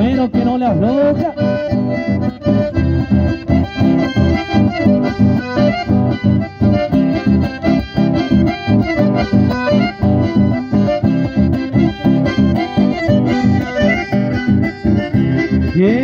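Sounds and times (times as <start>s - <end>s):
accordions playing dance tune: 0.0s - 16.0s
acoustic guitar: 0.0s - 16.0s.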